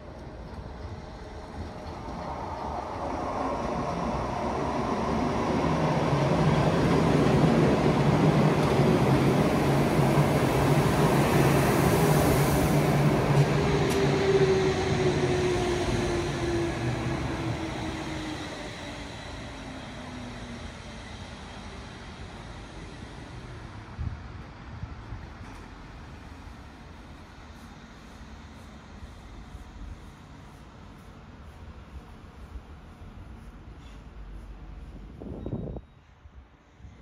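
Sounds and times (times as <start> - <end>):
railcar passing with motor hum: 0.0 - 37.0.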